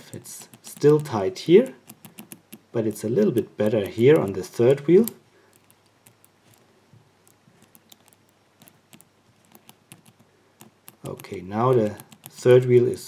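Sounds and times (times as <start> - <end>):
padlock number wheels clicking: 0.0 - 6.6, 7.2 - 12.7.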